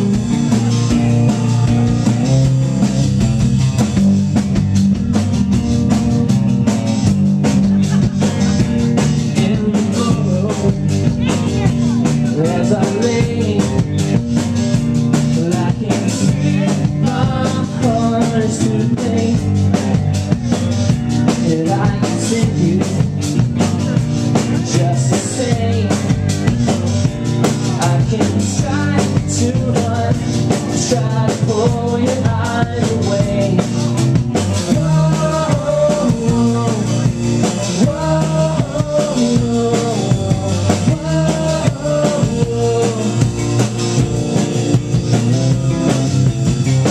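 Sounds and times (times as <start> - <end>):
drums keeping a steady beat: 0.0 - 46.9
live rock band playing: 0.0 - 46.9.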